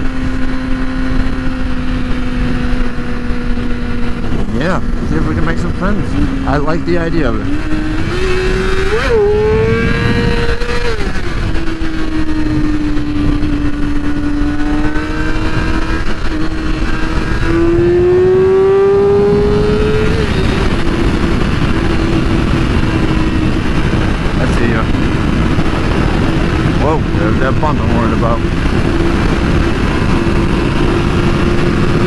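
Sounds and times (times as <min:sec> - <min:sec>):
motorcycle engine at high revs: 0:00.0 - 0:32.0
wind rushing: 0:00.0 - 0:32.0.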